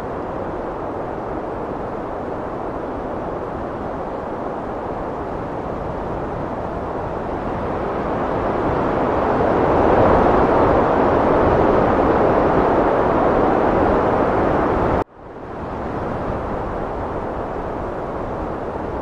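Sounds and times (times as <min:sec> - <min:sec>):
heavy wind blowing: 0:00.0 - 0:19.0.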